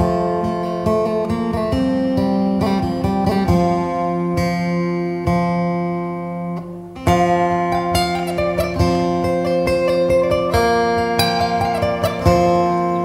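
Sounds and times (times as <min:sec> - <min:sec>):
plucked string dance music: 0:00.0 - 0:13.0.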